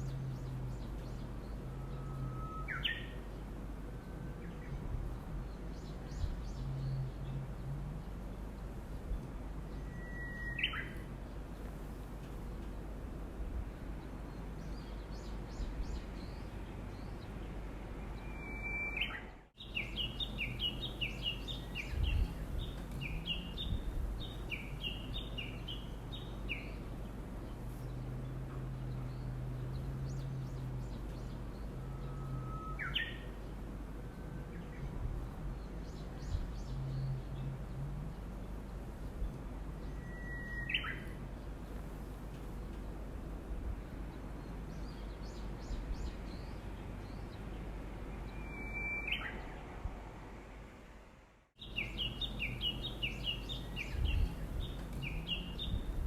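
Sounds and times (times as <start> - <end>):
faint low hum: 0.0 - 56.0
songbird chirping: 0.0 - 56.0.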